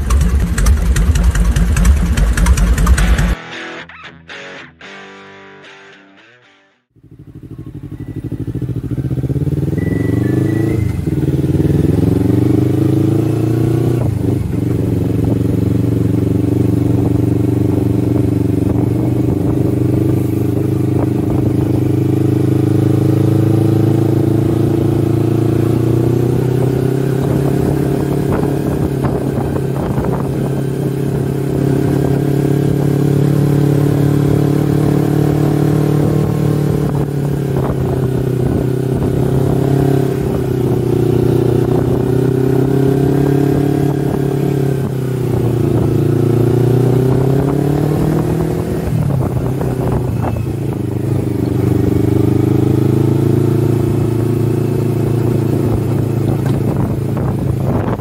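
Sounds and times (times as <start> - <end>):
motorcycle engine pulling away: 0.0 - 3.4, 7.0 - 58.0.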